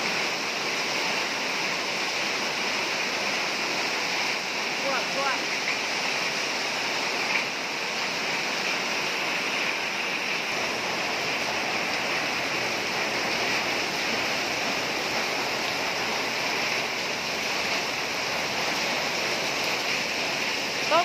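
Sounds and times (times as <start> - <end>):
heavy rain on concrete: 0.0 - 21.0.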